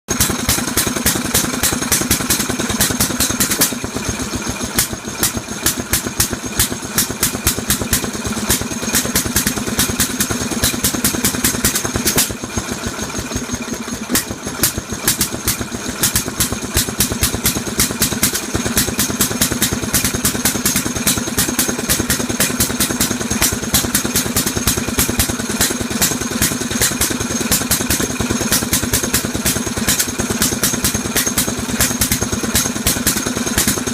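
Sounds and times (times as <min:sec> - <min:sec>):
boat engine knocking clatter: 0:00.1 - 0:33.9.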